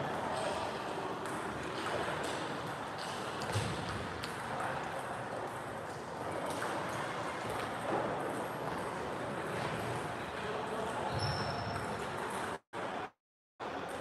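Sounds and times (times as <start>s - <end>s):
sports hall background noise: 0.0s - 14.0s.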